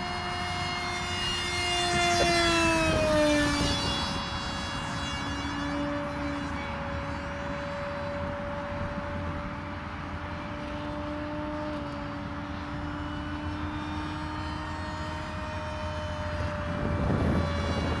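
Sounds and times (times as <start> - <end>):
propeller whine: 0.0 - 18.0.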